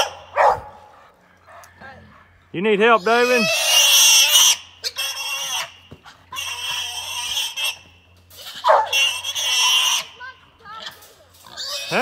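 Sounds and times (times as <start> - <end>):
pig squealing: 0.0 - 0.4, 1.5 - 12.0.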